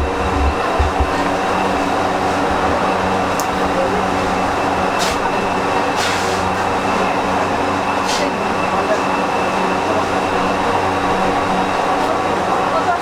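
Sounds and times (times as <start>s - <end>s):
busy shop din: 0.0s - 13.0s
low hum of fans: 0.0s - 13.0s.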